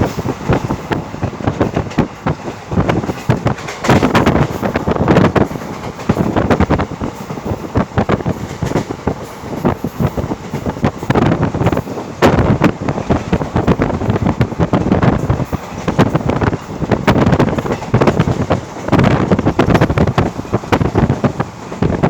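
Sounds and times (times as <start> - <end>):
steady rush of train noise: 0.0 - 22.0
train wheels knocking on rails: 0.0 - 22.0
wind buffeting microphone: 0.0 - 22.0.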